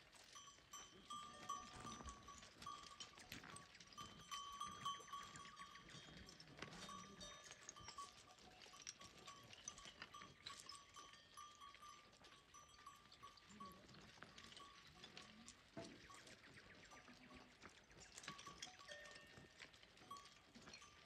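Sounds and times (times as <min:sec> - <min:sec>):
livestock bells ringing: 0:00.0 - 0:21.0.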